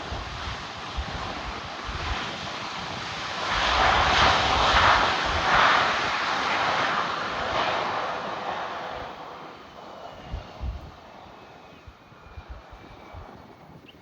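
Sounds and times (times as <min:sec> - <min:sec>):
airplane passing roar: 0:00.0 - 0:13.5.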